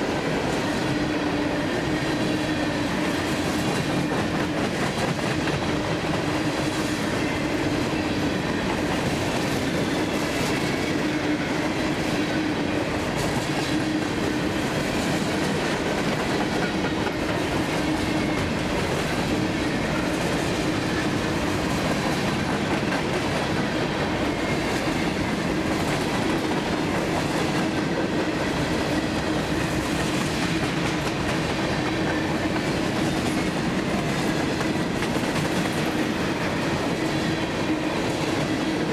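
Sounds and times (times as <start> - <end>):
train wheels clattering on rails: 0.0 - 38.9.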